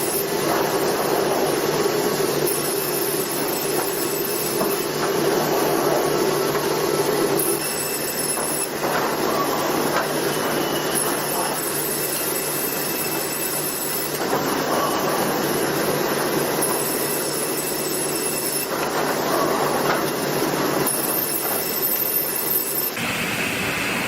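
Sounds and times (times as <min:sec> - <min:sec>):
saw cutting timber: 0:00.0 - 0:22.8
sawmill machine hum: 0:00.0 - 0:24.0.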